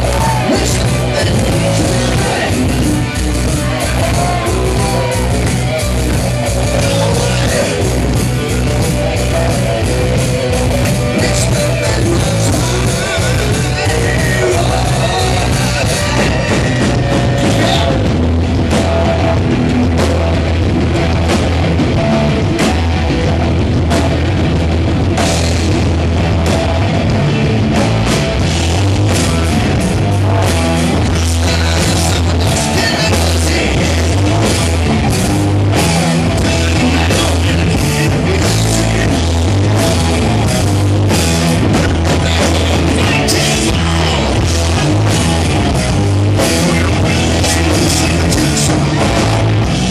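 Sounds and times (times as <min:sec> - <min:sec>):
bass guitar: 0:00.0 - 0:49.9
distorted electric guitar: 0:00.0 - 0:49.9
drum kit with cymbal hits: 0:00.0 - 0:49.9.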